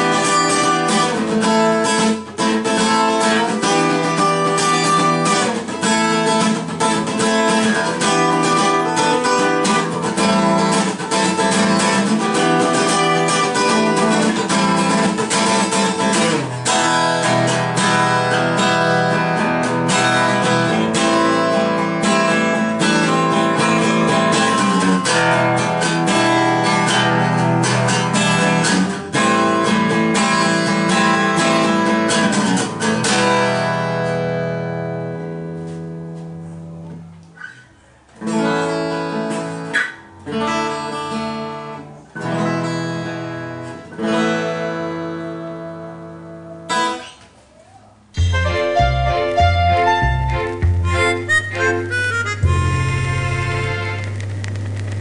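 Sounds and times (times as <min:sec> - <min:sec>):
acoustic guitar strummed chords: 0:00.0 - 0:47.2, 0:48.1 - 0:55.0.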